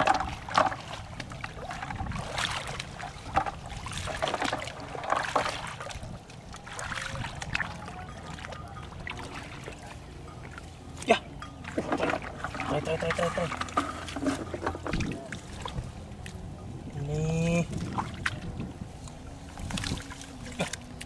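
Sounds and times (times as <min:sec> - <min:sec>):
footsteps wading through water: 0:00.0 - 0:21.0.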